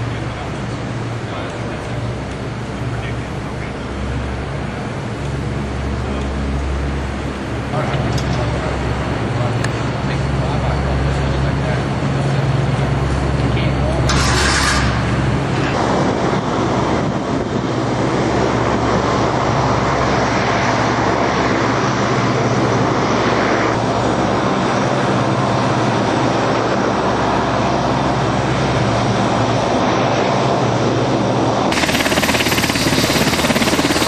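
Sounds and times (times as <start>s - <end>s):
helicopter turbine and rotor chop: 0.0s - 34.0s.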